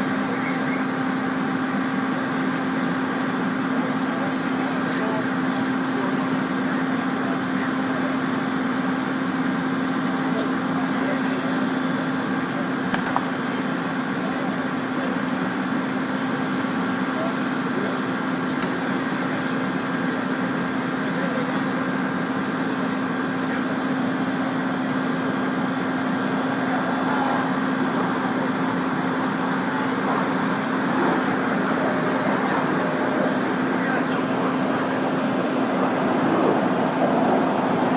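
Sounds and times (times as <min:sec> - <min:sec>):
hydraulic power unit engine humming: 0:00.0 - 0:37.9.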